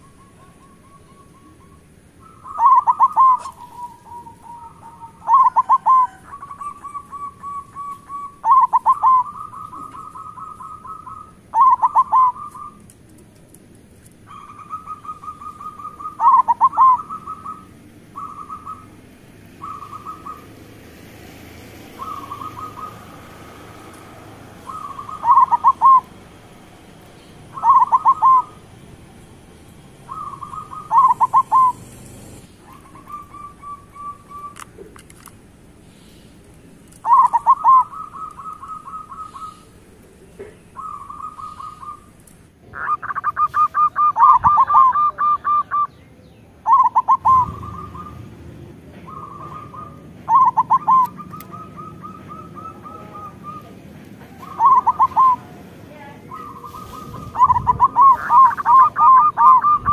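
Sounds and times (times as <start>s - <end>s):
dove cooing: 0.0s - 13.2s, 14.2s - 28.9s, 29.9s - 34.8s, 37.0s - 46.0s, 46.6s - 59.9s.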